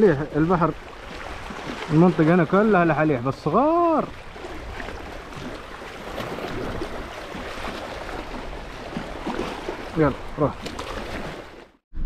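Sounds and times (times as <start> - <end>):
seawater lapping and splashing: 0.0 - 11.8.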